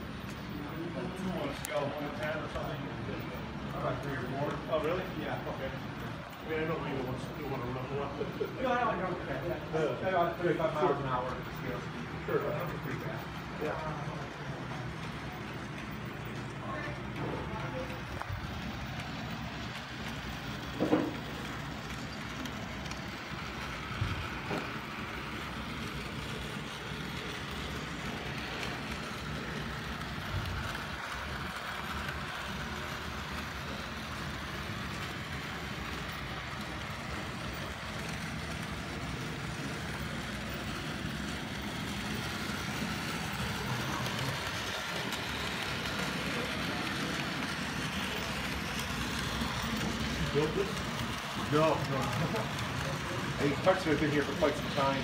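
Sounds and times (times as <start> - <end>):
model train running on track: 0.0 - 55.0.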